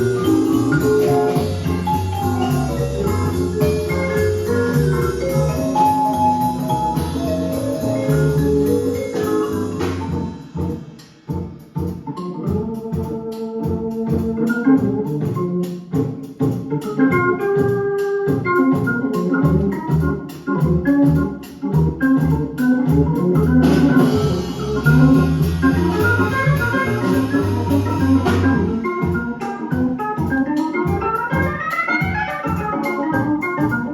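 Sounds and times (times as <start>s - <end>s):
organ-led music from a record: 0.0s - 33.9s.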